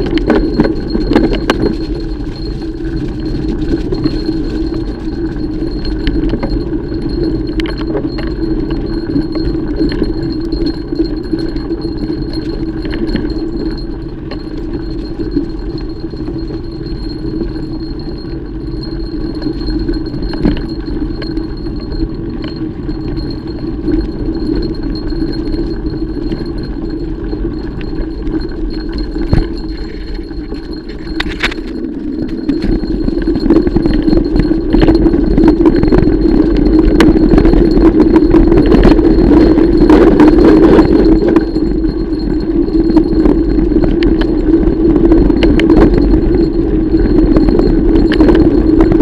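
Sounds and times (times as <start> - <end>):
bike rattling and clicking: 0.0 - 49.0
bike tyres rolling on trail: 0.0 - 49.0.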